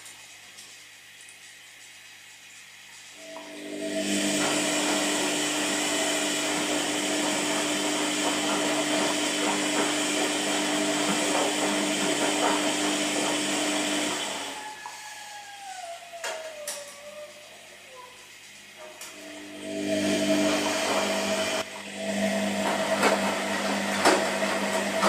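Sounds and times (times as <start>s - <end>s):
washing machine running: 0.0s - 25.0s
motor whine winding down: 3.2s - 17.8s, 19.1s - 25.0s.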